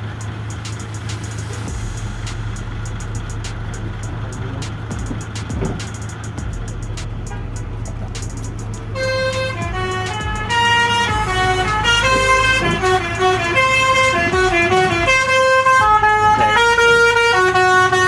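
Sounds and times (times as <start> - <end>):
low hum: 0.0 - 18.0
musical air horn playing tune: 0.0 - 18.0.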